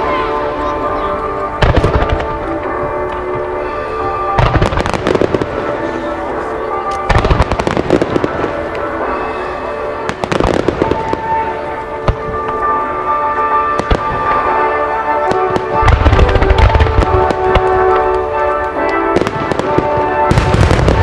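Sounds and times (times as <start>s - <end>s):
firework crackling: 0.0s - 21.0s
music over loudspeakers: 0.0s - 21.0s.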